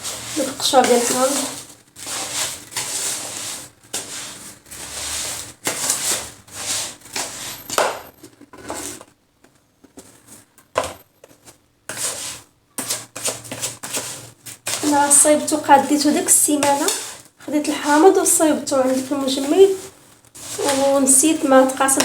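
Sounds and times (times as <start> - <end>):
sugar scraping while stirred: 0.0 - 9.0, 11.3 - 22.0.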